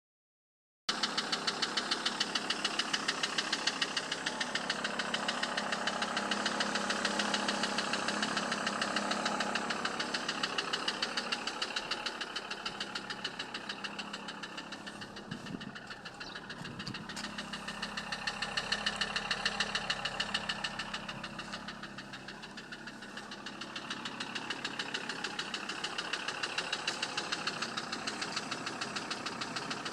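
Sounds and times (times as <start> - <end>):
diesel engine idling with knock: 0.9 - 29.9.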